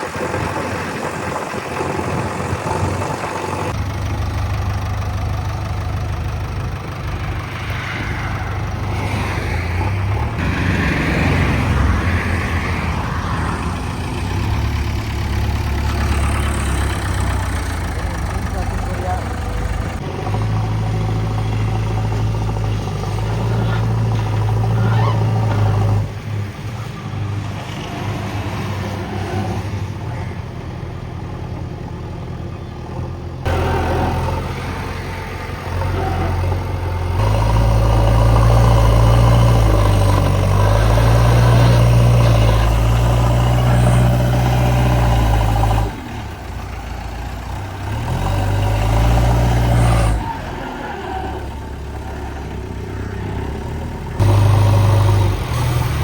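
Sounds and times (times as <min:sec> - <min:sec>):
backhoe diesel engine revving: 0:00.0 - 0:56.0.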